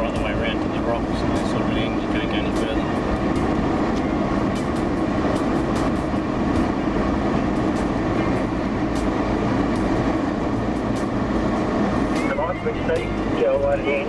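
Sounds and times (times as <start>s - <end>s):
vehicle engine and tyres rumbling: 0.0s - 14.0s.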